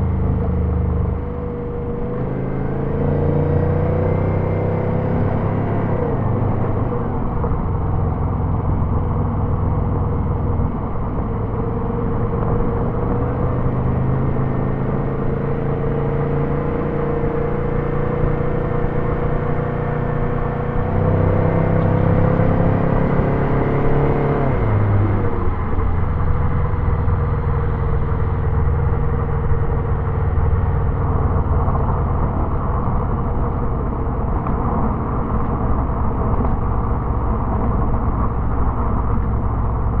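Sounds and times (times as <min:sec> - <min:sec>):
car engine accelerating: 0:00.0 - 0:40.0
low road rumble: 0:00.0 - 0:40.0.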